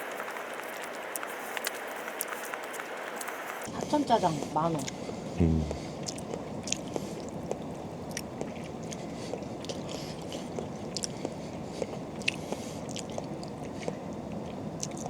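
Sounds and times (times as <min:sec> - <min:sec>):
chewing noodles: 0:00.0 - 0:03.7, 0:04.7 - 0:15.0
low background hum: 0:00.0 - 0:15.0.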